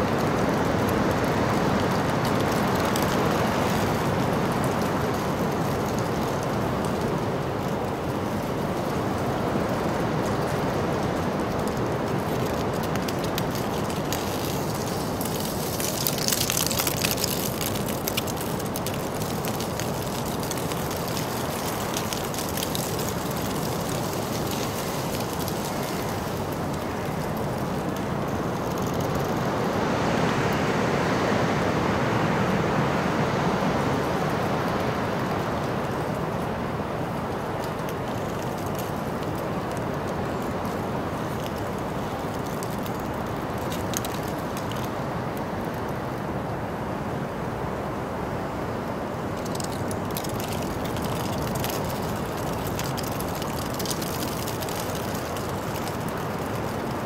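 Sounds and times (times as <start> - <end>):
vehicle crackling rattle: 0.0 - 29.4, 34.5 - 45.0, 49.3 - 57.0
city street background noise: 0.0 - 57.0.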